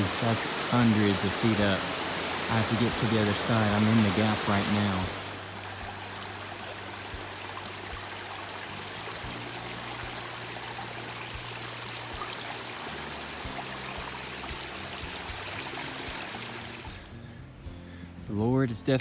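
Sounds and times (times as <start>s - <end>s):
stream rushing over rocks: 0.0s - 17.1s.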